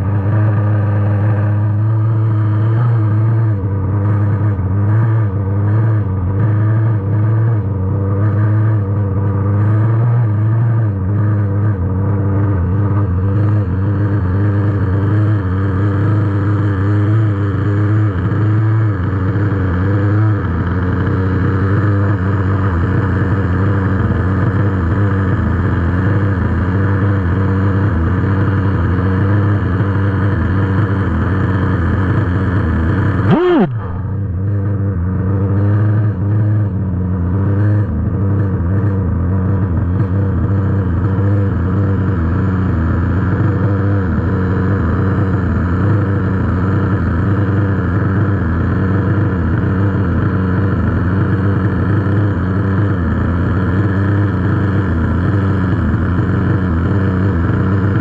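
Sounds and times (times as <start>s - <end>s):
small engine idling: 0.0s - 58.0s.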